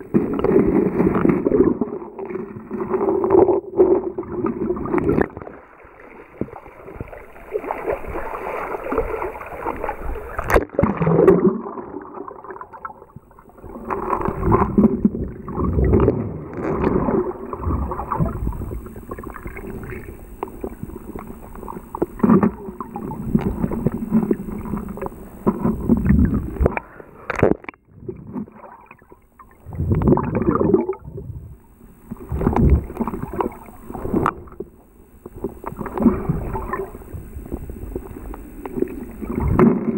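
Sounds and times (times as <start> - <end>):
muffled underwater river rushing: 0.0 - 39.9.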